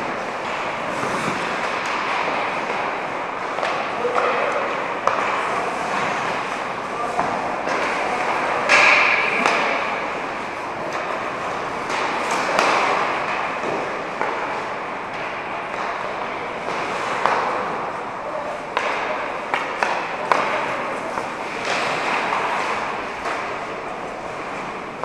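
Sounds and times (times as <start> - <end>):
hockey sticks and pucks clacking: 0.0 - 25.0
skates scraping on ice: 0.0 - 25.0.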